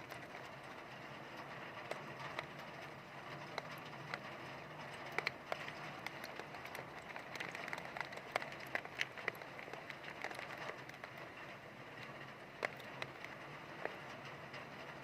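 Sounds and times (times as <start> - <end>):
raindrops ticking on a surface: 0.0 - 15.0.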